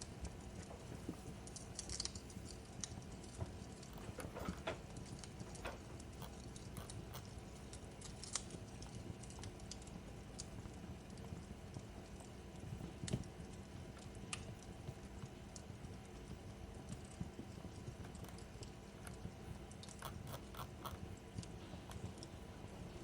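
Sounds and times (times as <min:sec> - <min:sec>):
fire low rumble: 0:00.0 - 0:23.0
fireplace crackling: 0:00.0 - 0:23.0.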